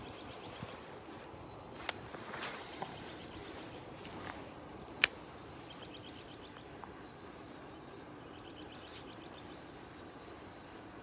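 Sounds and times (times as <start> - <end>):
low outdoor noise: 0.0 - 11.0
songbird chirping: 0.0 - 11.0.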